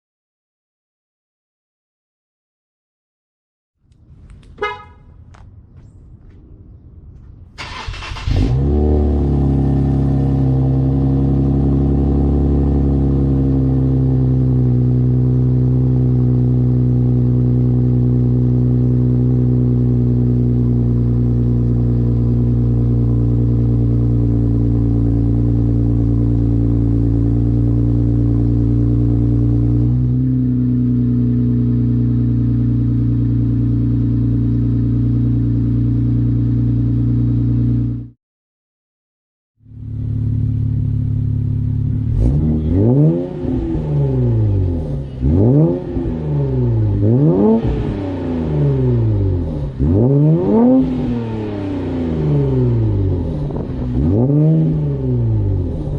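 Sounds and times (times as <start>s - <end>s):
car engine cranking and idling: 3.8s - 38.0s, 39.6s - 55.9s.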